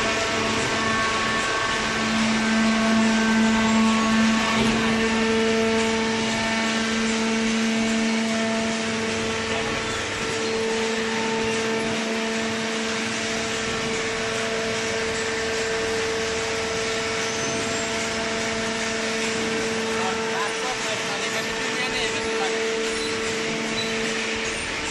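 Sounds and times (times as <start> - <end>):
baler machine hum: 0.0 - 24.9.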